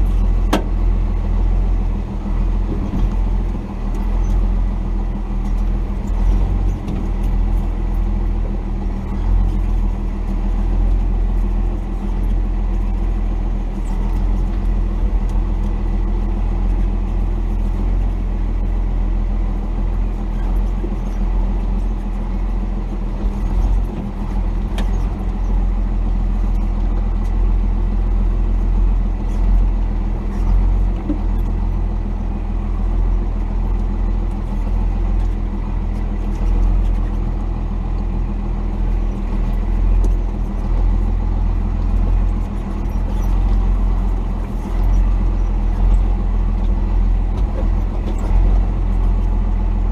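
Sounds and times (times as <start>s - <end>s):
diesel engine rumbling: 0.0s - 49.9s.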